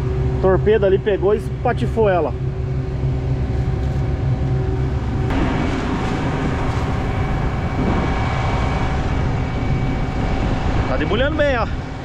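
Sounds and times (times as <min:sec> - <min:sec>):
combine harvester running: 0:00.0 - 0:12.0
faint steady whine: 0:00.0 - 0:12.0.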